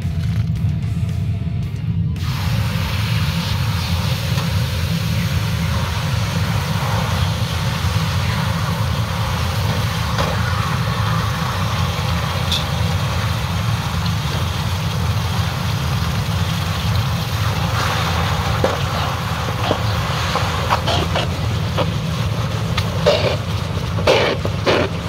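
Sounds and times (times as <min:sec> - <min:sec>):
low motor rumble: 0:00.0 - 0:25.0
hot metal hissing in water: 0:02.2 - 0:25.0.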